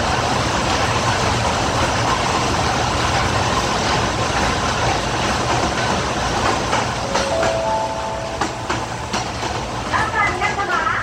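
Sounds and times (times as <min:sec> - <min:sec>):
train running in tunnel: 0:00.0 - 0:11.0.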